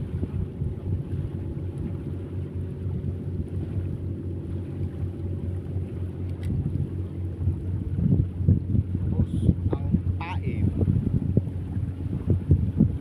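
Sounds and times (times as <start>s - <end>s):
engine running steadily: 0.0s - 13.0s
wind buffeting microphone: 0.0s - 13.0s.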